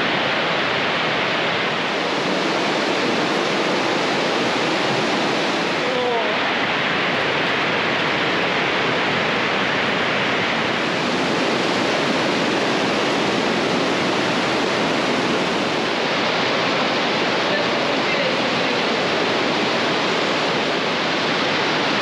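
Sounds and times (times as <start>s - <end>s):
water rushing through rock gorge: 0.0s - 22.0s.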